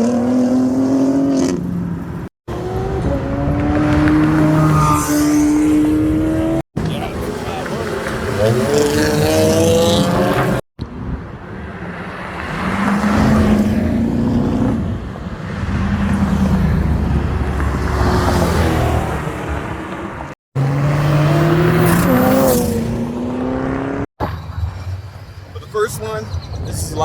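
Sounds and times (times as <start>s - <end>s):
car engines revving: 0.0s - 26.2s.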